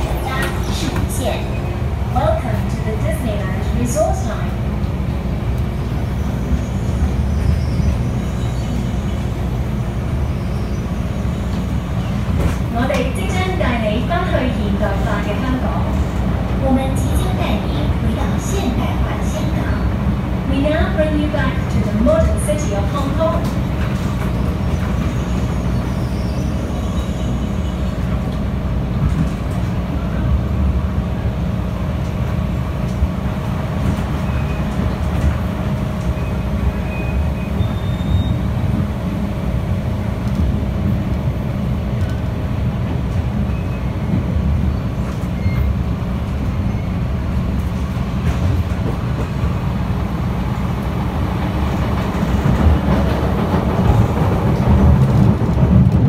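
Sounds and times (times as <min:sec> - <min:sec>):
train passing alongside: 0:00.0 - 0:56.0
train wheels rumbling on track: 0:00.0 - 0:56.0.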